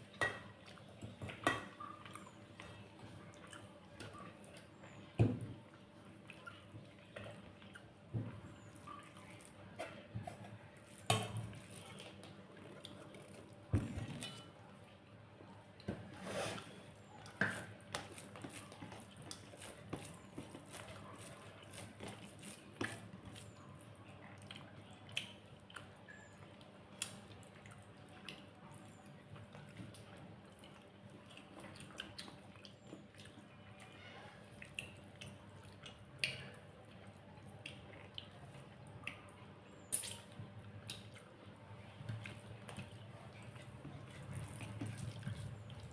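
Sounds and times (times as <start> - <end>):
wet chewing and mouth sounds: 0.0 - 14.8, 15.4 - 45.9.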